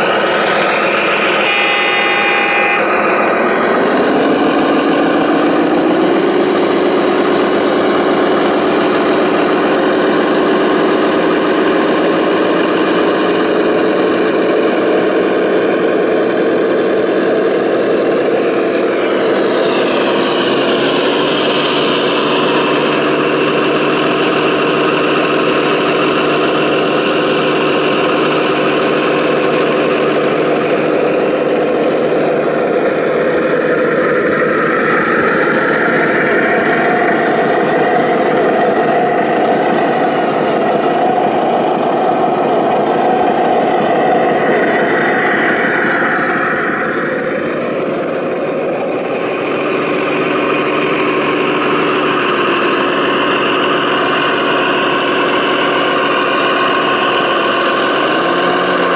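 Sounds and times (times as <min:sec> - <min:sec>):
radio-controlled truck engines: 0:00.0 - 0:58.9.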